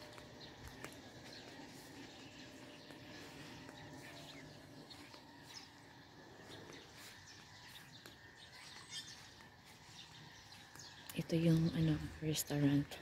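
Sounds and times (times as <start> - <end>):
birds chirping: 0.0 - 13.0
low background hum: 0.0 - 13.0.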